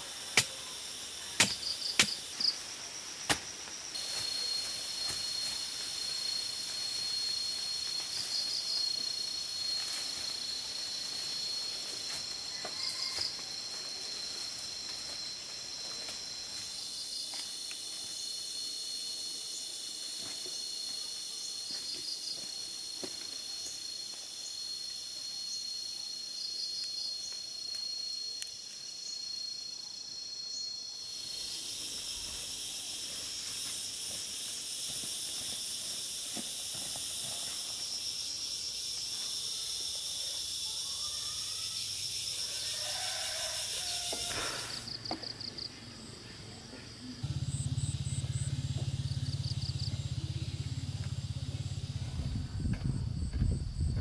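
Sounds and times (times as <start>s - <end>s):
insect chirps: 0.0s - 54.0s
insects droning: 0.0s - 54.0s.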